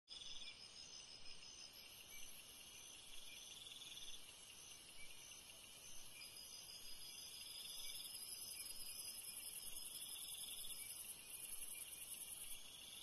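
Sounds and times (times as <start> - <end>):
insects trilling: 0.2 - 13.0.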